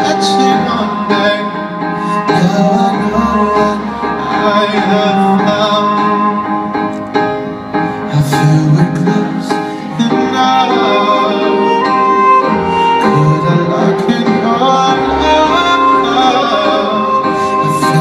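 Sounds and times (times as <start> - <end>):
man singing: 0.0 - 7.0, 8.0 - 18.0
live band with bowed strings: 0.0 - 18.0.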